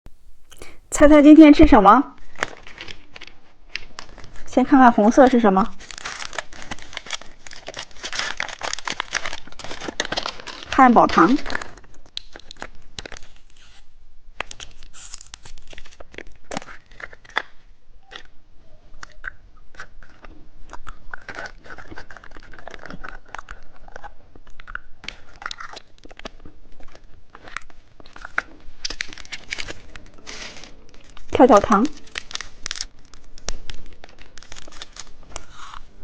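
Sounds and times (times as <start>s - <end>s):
chewing and crunching candy: 2.2s - 4.5s, 5.1s - 13.8s, 14.4s - 36.0s.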